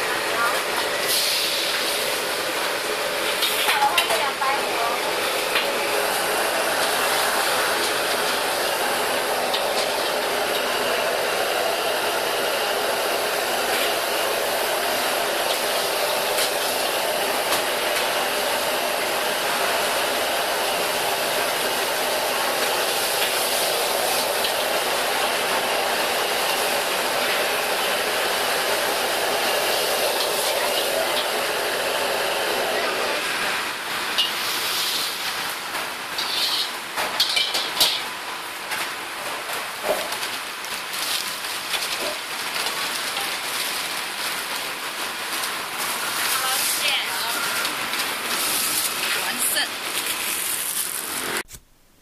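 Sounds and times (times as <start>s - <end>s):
food sizzling in wok: 0.0s - 51.6s
gas burner rushing: 0.0s - 51.6s.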